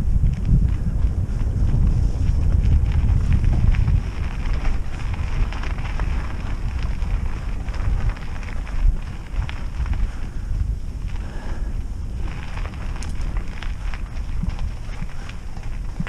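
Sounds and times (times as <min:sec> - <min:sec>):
bike clicks and rattles: 0:00.0 - 0:16.0
bike tyre rumble on dirt: 0:00.0 - 0:16.0
wind buffeting microphone: 0:00.0 - 0:16.0.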